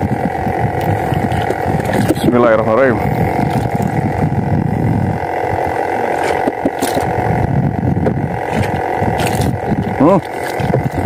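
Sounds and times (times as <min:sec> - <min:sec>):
boat engine drone: 0:00.0 - 0:11.0
wind rumble on microphone: 0:00.0 - 0:11.0.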